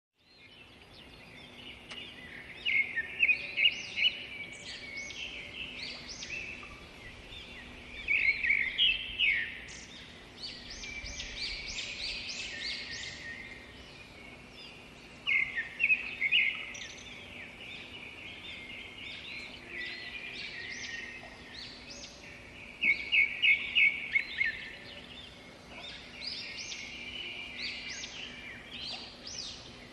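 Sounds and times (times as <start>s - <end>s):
birds calling and chirping: 0.2s - 29.9s
faint steady hum: 0.4s - 29.9s.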